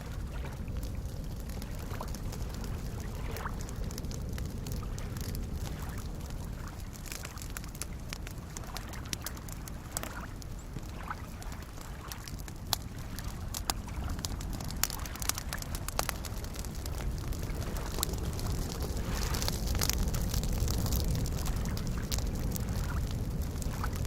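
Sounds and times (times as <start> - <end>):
campfire crackling and popping: 0.0 - 24.0
small waves lapping: 0.0 - 24.0.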